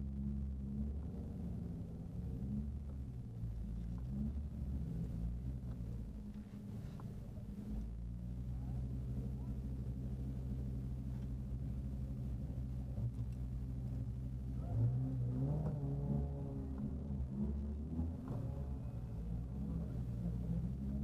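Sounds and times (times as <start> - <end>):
car engine idling in cabin: 0.0 - 21.0.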